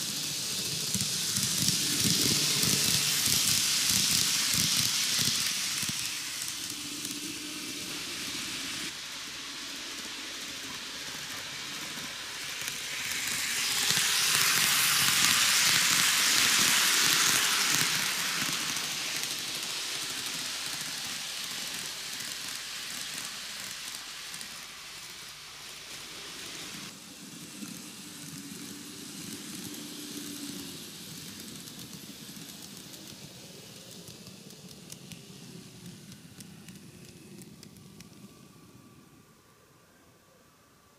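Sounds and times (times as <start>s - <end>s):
model train running on track: 0.0s - 40.3s.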